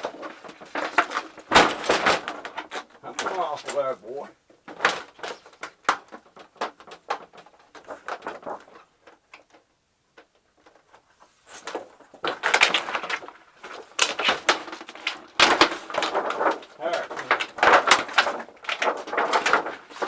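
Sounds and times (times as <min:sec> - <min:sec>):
plastic sheets crackling: 0:00.0 - 0:04.0, 0:04.7 - 0:09.7, 0:10.5 - 0:20.0.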